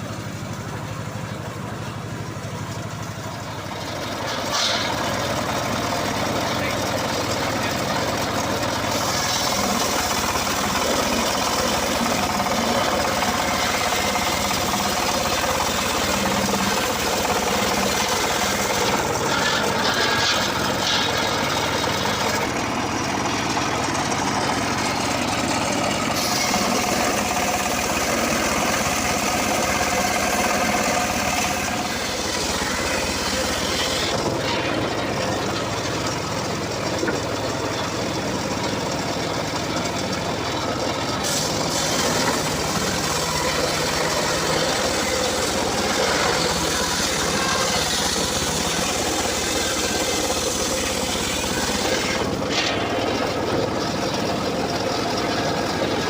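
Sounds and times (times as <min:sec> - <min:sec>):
circular saw engine running: 0:00.0 - 0:56.0.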